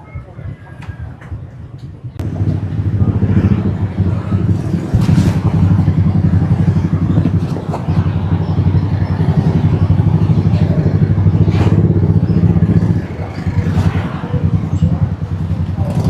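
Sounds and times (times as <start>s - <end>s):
road noise: 2.1s - 16.0s
motorbike engine running: 2.2s - 16.0s.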